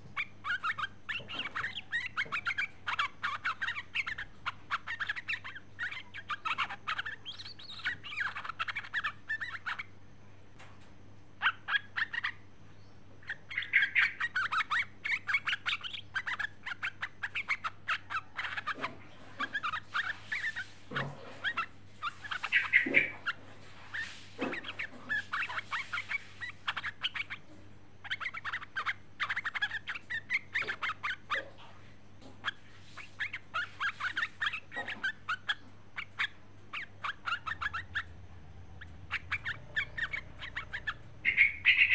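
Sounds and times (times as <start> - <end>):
bird chattering calls: 0.0 - 10.0, 11.4 - 12.4, 13.2 - 41.9.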